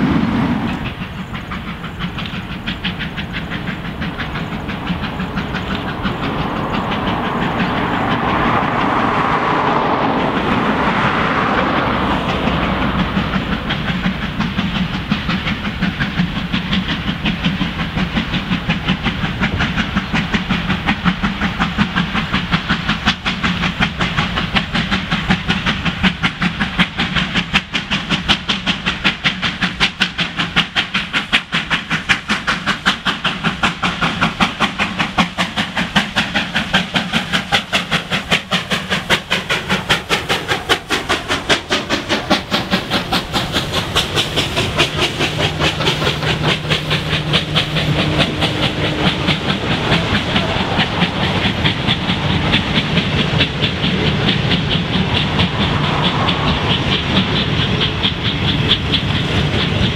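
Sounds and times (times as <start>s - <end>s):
steam locomotive exhaust beat: 0.0s - 59.9s
wheels clattering on rails: 0.0s - 59.9s.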